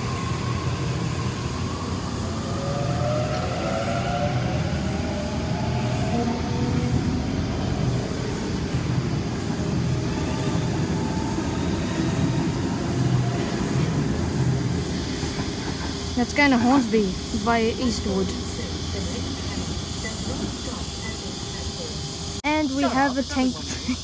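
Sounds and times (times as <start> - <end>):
wheels rumbling on rails: 0.0 - 22.2
electric train motor whine: 0.0 - 23.7.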